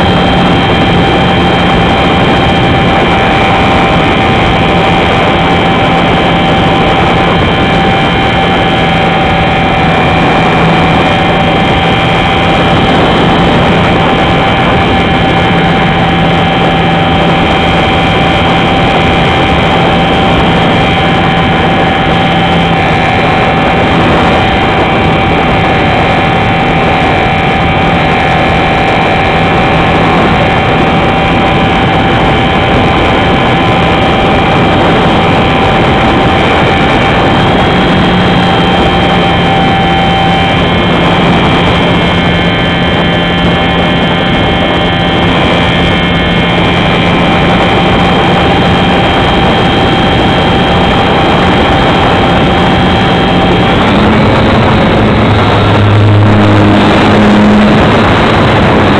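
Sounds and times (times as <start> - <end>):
constant whine: 0.0 - 58.9
model plane motor and propeller: 0.0 - 58.9
wind rushing: 0.0 - 58.9.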